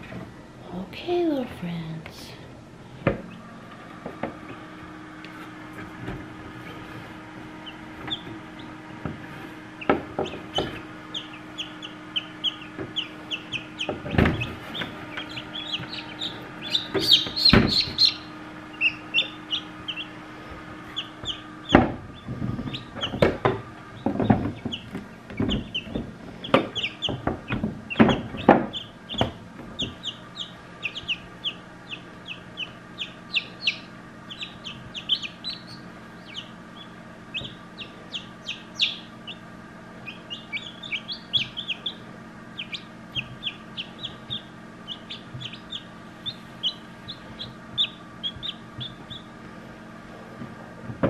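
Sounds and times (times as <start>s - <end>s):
faint steady hum: 0.0s - 51.0s
chicks peeping: 3.2s - 51.0s.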